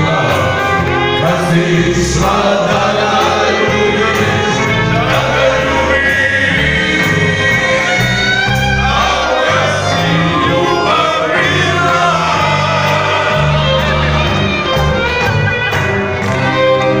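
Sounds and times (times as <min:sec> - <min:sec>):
live rock band with singing: 0:00.0 - 0:16.7.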